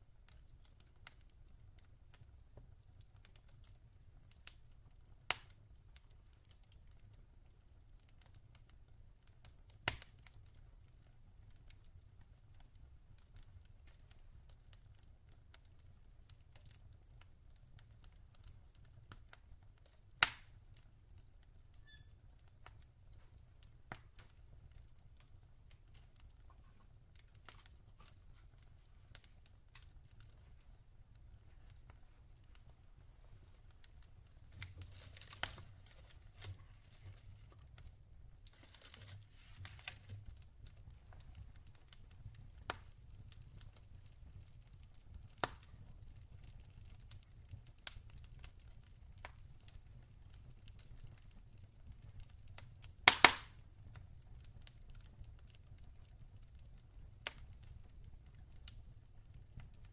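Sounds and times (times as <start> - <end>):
log fire crackling: 0.0 - 59.9.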